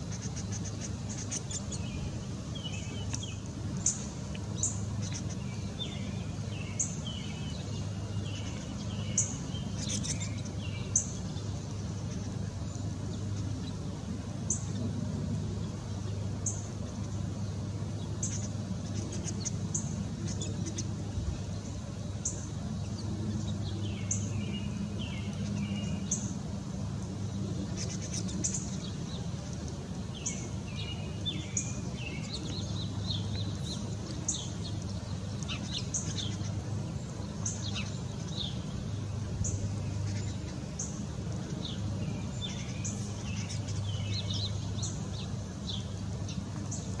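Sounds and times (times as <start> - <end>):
bird warbled song: 0.0 - 47.0
birds chirping: 0.0 - 47.0.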